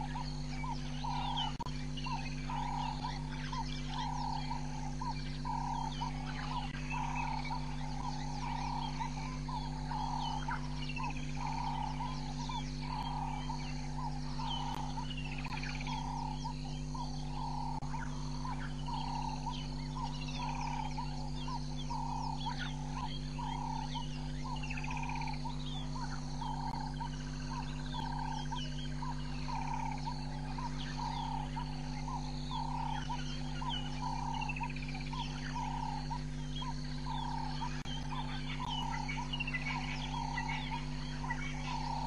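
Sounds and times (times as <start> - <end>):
birds chirping and trilling: 0.0 - 42.0
steady low hum: 0.0 - 42.0.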